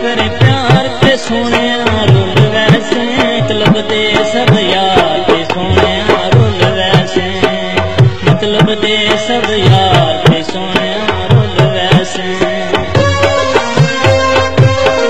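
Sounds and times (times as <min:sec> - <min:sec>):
hand drum quick rhythm: 0:00.0 - 0:15.0.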